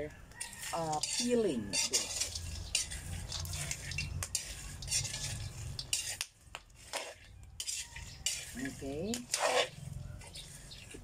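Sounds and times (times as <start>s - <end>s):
metal spoon scraping a pan: 0.3s - 11.0s
beans rattling against a pan: 0.4s - 11.0s.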